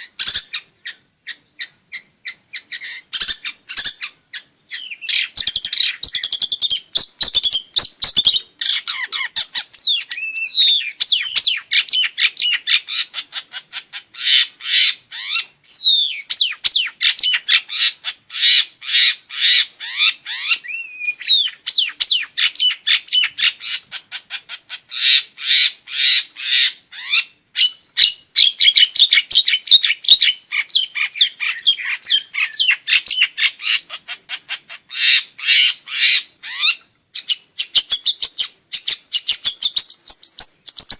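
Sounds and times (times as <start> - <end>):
bird whistles: 0.0 - 23.8, 25.0 - 40.9
bird harsh chatter: 0.0 - 40.9.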